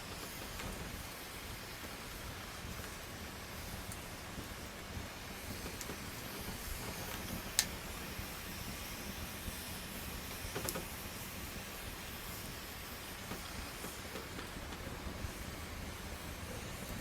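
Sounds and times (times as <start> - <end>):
campfire hissing: 0.0 - 17.0.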